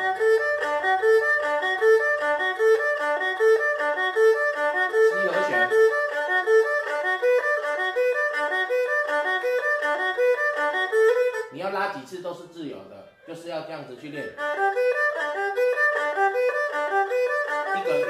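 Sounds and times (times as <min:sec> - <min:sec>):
erhu playing arpeggios: 0:00.0 - 0:18.0.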